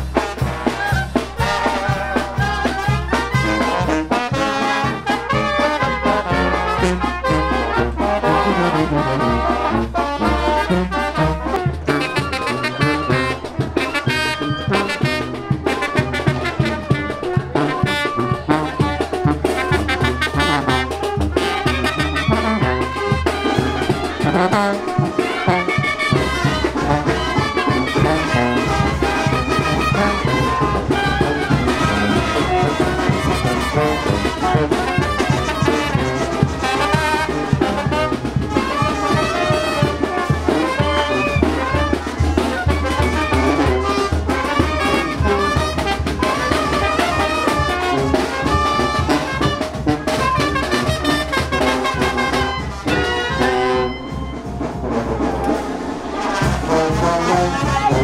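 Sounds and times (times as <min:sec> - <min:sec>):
brass band playing festive tune: 0:00.0 - 0:58.0
trumpets and horns melody: 0:00.0 - 0:58.0.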